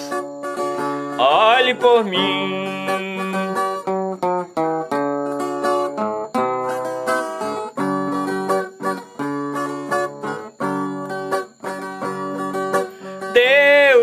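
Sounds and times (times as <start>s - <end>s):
plucked viola caipira melody: 0.0s - 14.0s.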